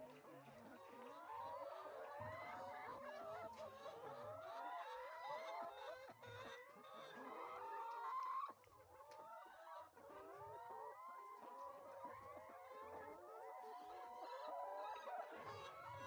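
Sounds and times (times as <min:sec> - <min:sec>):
hens clucking: 0:00.8 - 0:16.0.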